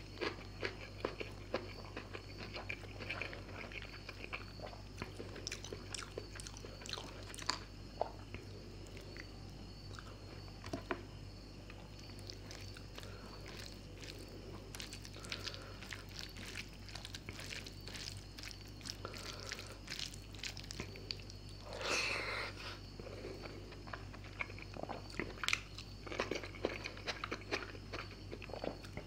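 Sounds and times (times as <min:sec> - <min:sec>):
close chewing and mouth sounds: 0:00.0 - 0:29.0.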